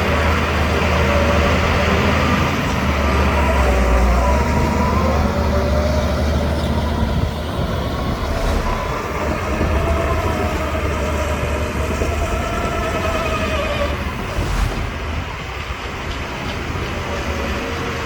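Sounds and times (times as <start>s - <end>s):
bulldozer diesel engine drone: 0.0s - 18.0s.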